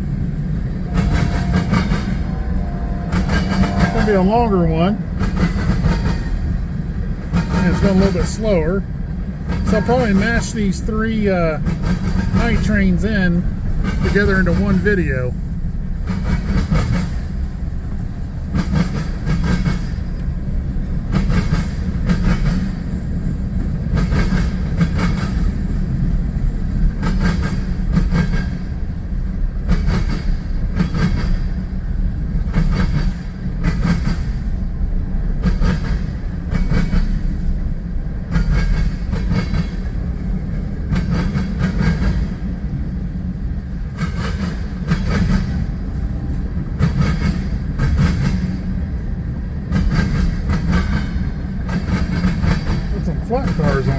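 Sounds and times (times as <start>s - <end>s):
freight train low rumble: 0.0s - 53.9s
train wheels clacking over rail joints: 0.0s - 53.9s.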